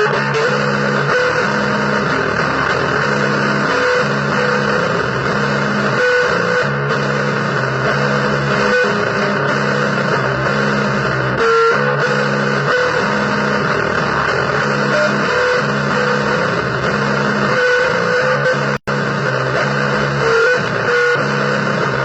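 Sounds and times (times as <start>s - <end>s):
distorted electric guitar chords: 0.0s - 22.0s
hiss and distortion: 0.0s - 22.0s.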